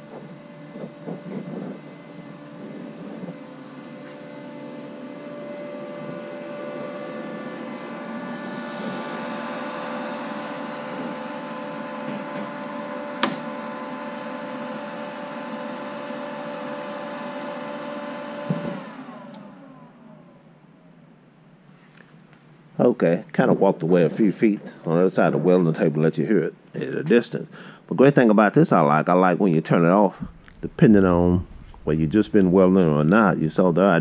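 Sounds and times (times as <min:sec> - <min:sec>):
welder cooling fan humming: 0:00.0 - 0:34.0.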